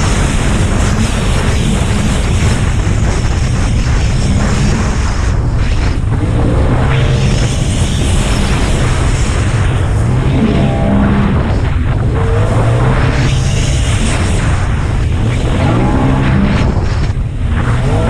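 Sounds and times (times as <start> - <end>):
jet ski engine running hard: 0.0 - 18.0
rush of wind and water: 0.0 - 18.0.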